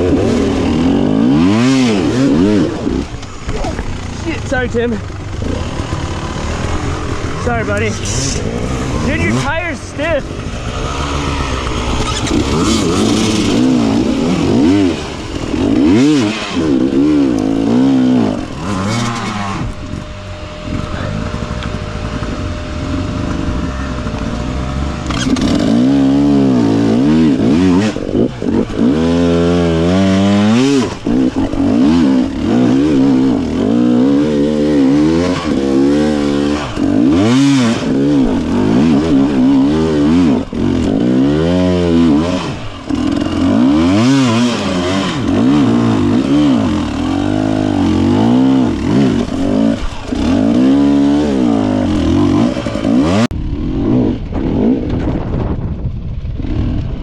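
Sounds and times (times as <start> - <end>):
dirt bike engine revving: 0.0 - 55.5.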